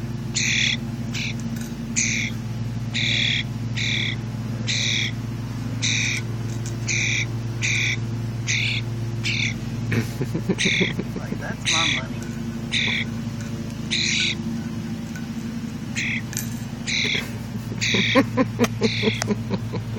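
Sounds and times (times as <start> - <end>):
steady low hum: 0.0 - 19.9
young bird squawking: 0.3 - 5.2, 5.8 - 9.6, 10.5 - 15.0, 15.9 - 19.3.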